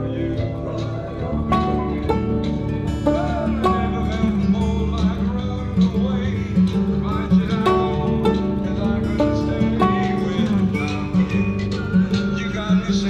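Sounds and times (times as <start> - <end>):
plucked acoustic guitar: 0.0 - 13.0
steady bass line: 0.0 - 13.0.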